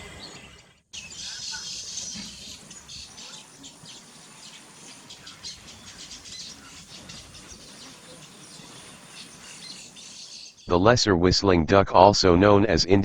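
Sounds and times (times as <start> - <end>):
birds chirping: 0.0 - 10.7
faint outdoor background: 0.0 - 13.0.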